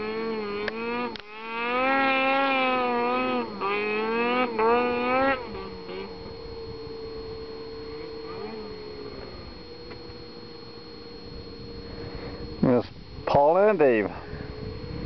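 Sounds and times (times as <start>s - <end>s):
snowmobile engine drone: 0.0s - 15.0s.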